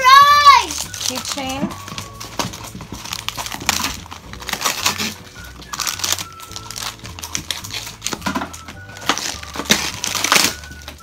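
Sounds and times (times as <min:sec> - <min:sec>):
plastic packaging crinkling and rustling: 0:00.2 - 0:11.0.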